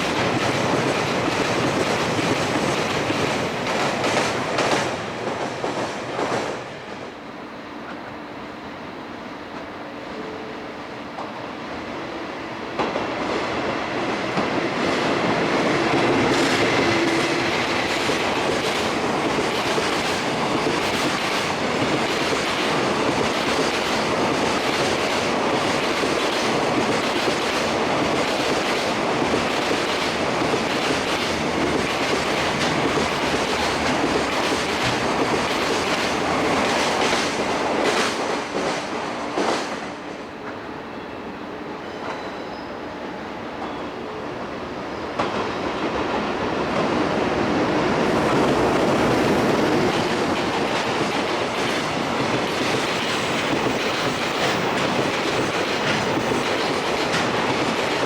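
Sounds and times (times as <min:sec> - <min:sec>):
train wheels clattering over rails: 0:00.0 - 0:07.2, 0:12.7 - 0:40.7, 0:45.2 - 0:58.0.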